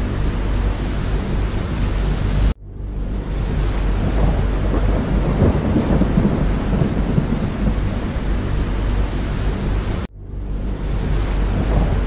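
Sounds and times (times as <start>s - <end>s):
dense rain: 0.0s - 12.0s
low rumble: 0.0s - 12.0s.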